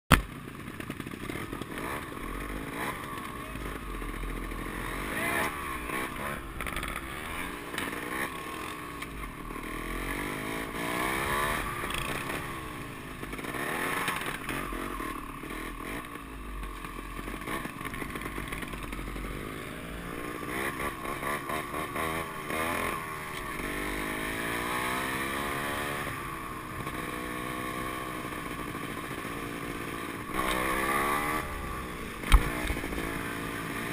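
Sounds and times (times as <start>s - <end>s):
motorcycle engines revving: 0.1s - 33.9s.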